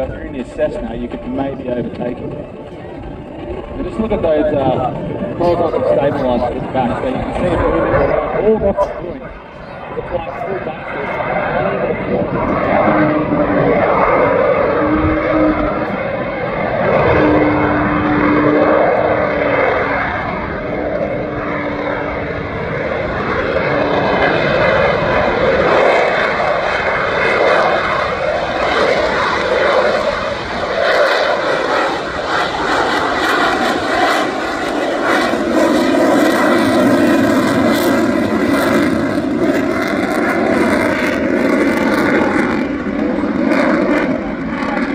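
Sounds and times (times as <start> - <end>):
jet engine roaring and crackling: 0.0 - 44.9.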